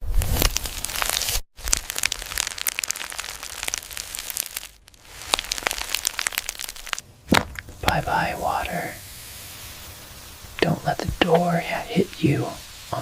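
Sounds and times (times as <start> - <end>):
dense crackling and crinkling: 0.0 - 13.0.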